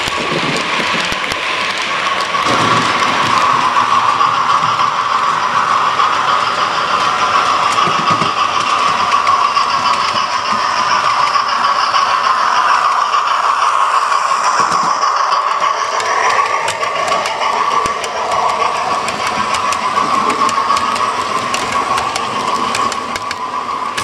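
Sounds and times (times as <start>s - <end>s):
model train motor whirring: 0.0s - 24.0s
wheels rattling on rails: 0.0s - 24.0s.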